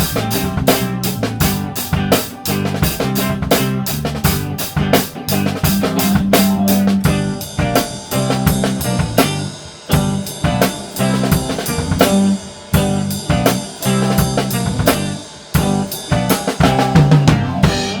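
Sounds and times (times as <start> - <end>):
blues-rock band recording: 0.0 - 18.0
drum kit playing: 0.0 - 18.0.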